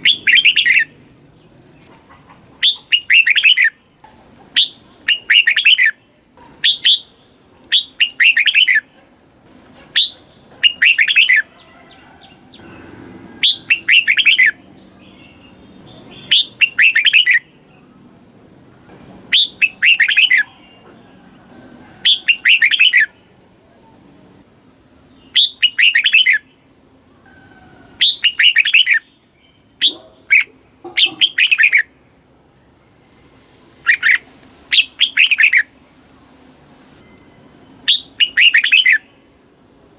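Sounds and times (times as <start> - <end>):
bird singing warbled phrases: 0.0 - 9.0, 9.9 - 11.6, 12.2 - 21.0, 22.0 - 27.2, 28.0 - 32.0, 33.8 - 35.8, 37.0 - 39.5.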